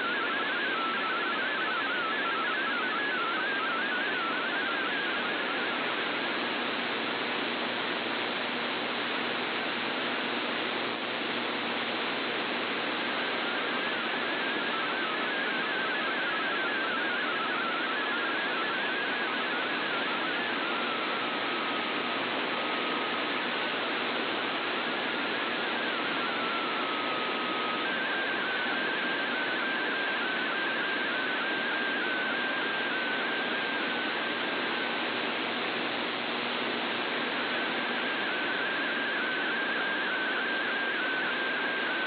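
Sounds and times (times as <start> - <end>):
warbling digital data signal: 0.0 - 6.9, 13.0 - 35.1, 36.6 - 42.0
radio static hiss: 0.0 - 42.0.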